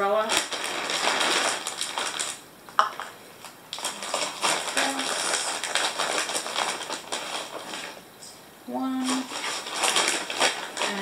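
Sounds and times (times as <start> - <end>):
plastic bag crinkling: 0.0 - 8.0, 9.0 - 11.0.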